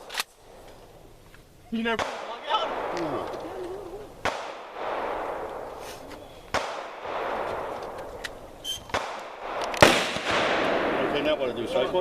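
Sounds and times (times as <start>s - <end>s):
gunshots with rolling echo: 1.7s - 12.0s.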